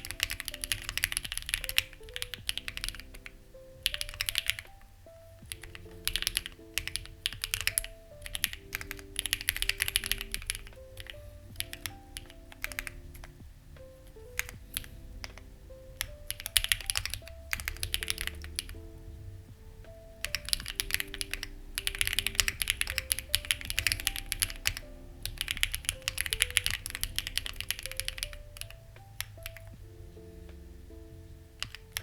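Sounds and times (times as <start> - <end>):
mechanical keyboard typing: 0.0 - 4.8, 5.5 - 13.4, 14.1 - 15.4, 16.0 - 18.8, 20.2 - 29.7, 31.6 - 32.0
soft background music: 0.0 - 32.0.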